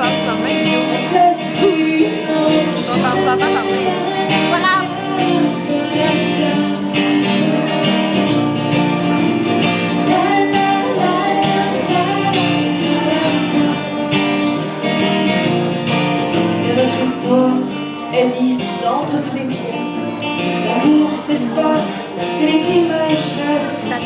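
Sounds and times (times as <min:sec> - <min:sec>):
live pop band playing: 0:00.0 - 0:24.0
strummed acoustic guitar: 0:00.0 - 0:24.0.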